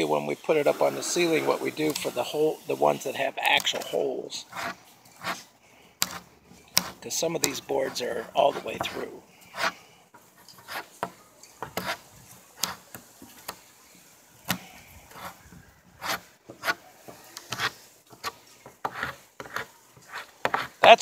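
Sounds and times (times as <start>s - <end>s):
hand tool scraping wood: 0.0s - 9.8s, 10.4s - 13.1s, 14.4s - 21.0s.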